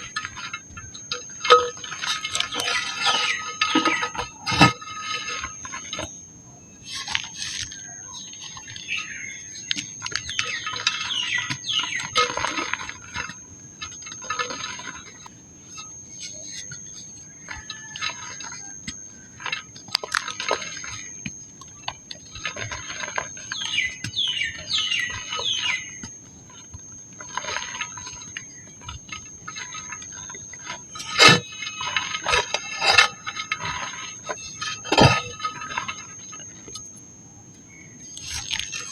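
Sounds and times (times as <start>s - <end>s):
dry mud crumbling and crunching: 0.0s - 38.9s.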